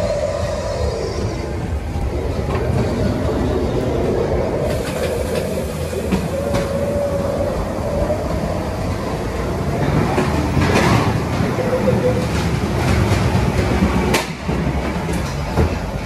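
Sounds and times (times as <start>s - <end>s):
ride car rumbling on metal track: 0.0s - 16.0s.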